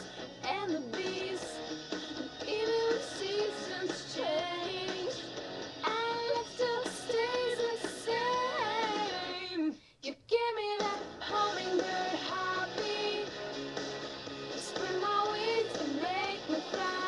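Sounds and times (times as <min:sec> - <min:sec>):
girl singing: 0:00.0 - 0:01.6, 0:02.4 - 0:13.3, 0:14.6 - 0:17.0
recorded pop music track: 0:00.0 - 0:17.0.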